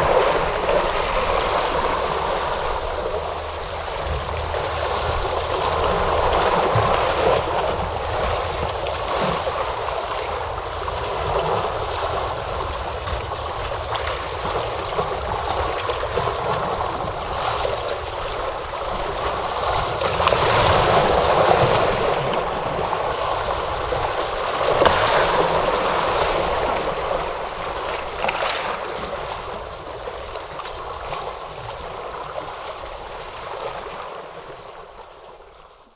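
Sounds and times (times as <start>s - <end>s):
ocean waves breaking: 0.0s - 35.9s.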